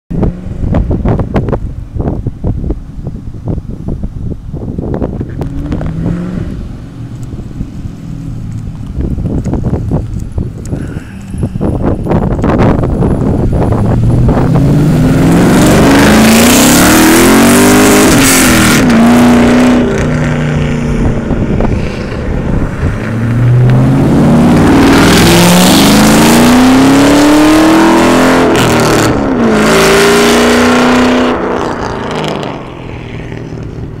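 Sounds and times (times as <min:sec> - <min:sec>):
car engine roaring: 0:00.1 - 0:34.0.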